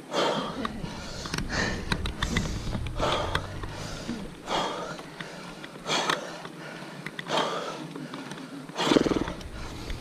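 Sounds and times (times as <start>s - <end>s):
person breathing hard: 0.0s - 10.0s.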